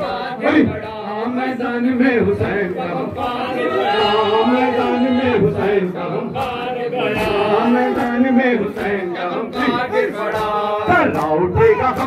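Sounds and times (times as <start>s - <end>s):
men chanting lament: 0.0s - 12.0s.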